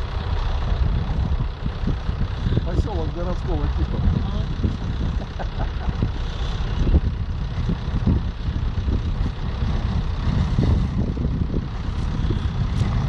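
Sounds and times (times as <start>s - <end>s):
ship engine rumble: 0.0s - 13.0s.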